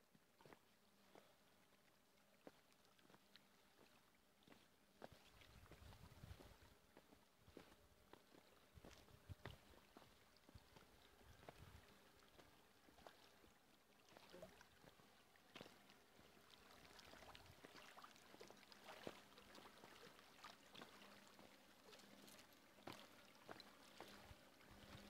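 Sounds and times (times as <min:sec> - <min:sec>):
faint river water: 0:00.0 - 0:25.0.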